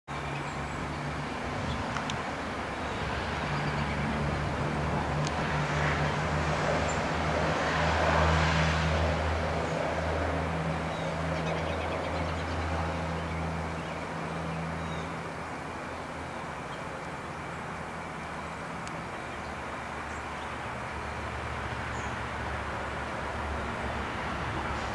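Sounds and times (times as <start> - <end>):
passing vehicle engine drone: 0.2 - 24.9.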